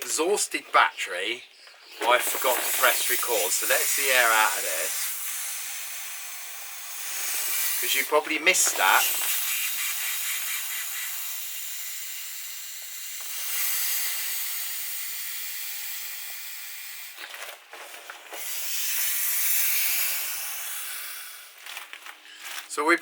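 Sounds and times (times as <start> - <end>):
air hissing from valve: 1.9 - 21.7.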